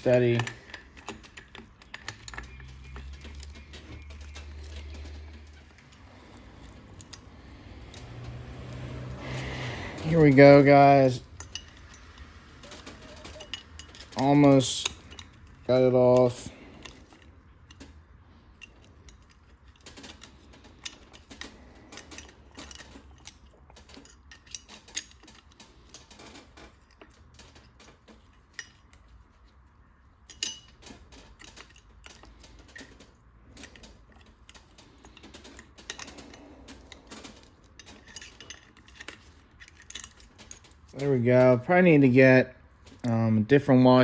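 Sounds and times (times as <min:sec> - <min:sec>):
hand tools clinking on metal: 0:00.0 - 0:43.8.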